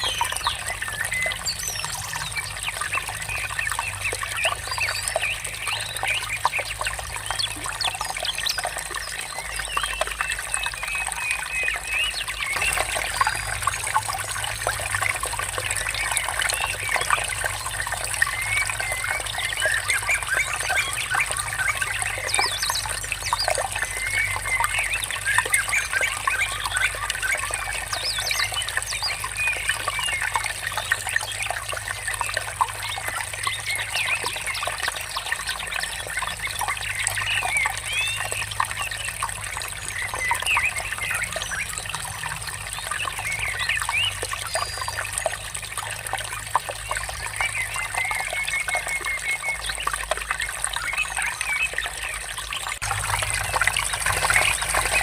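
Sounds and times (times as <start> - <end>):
birds chirping: 0.0 - 45.4
water trickling: 0.0 - 55.0.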